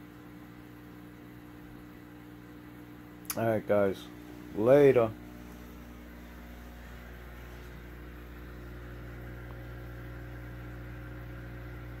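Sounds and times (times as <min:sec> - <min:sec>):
aquarium pump hum and hiss: 0:00.0 - 0:12.0.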